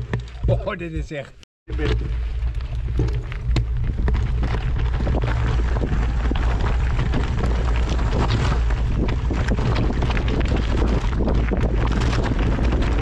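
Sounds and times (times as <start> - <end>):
crackles and ticks: 1.7 - 13.0
wind buffeting microphone: 1.7 - 13.0.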